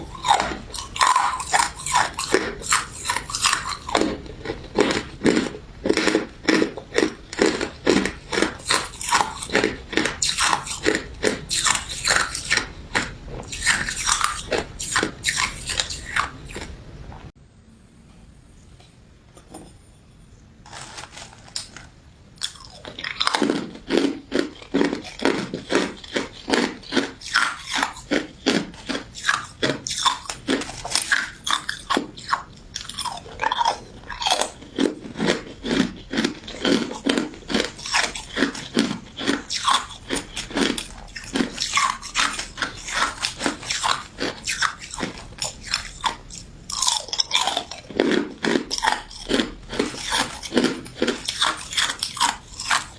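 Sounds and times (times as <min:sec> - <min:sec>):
crunching and chewing ice dessert: 0:00.0 - 0:16.9, 0:20.7 - 0:52.9.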